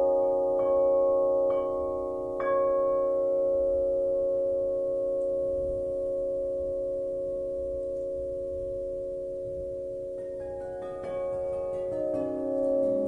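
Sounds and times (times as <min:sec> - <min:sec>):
flat metal bells ringing: 0:00.0 - 0:13.0.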